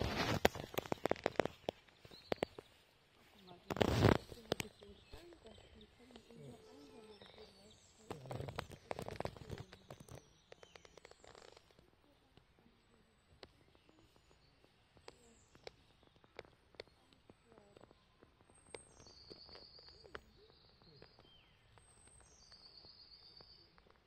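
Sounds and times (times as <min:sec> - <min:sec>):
faint clicks: 0:00.0 - 0:24.0.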